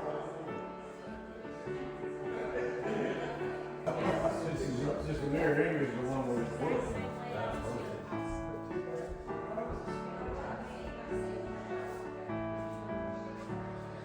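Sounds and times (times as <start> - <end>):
gentle instrumental music: 0.0 - 14.0.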